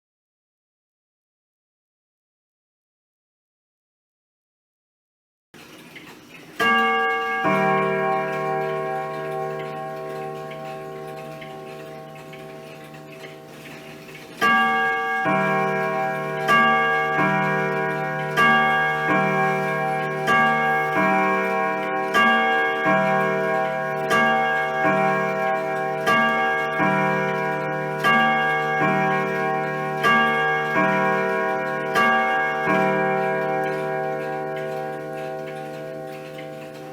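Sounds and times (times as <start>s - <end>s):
clock chime rods ringing: 5.6s - 36.9s.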